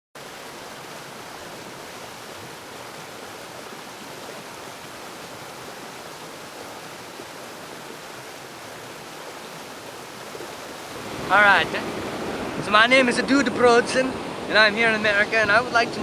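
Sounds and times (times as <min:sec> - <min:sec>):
wind: 0:00.2 - 0:16.0
beach surf: 0:00.7 - 0:16.0.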